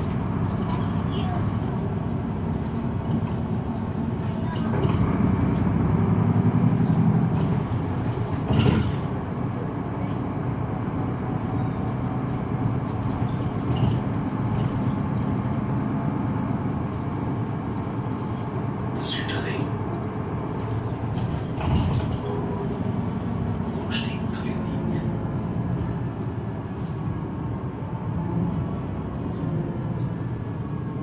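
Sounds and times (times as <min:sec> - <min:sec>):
bus diesel engine running: 0:00.0 - 0:31.0.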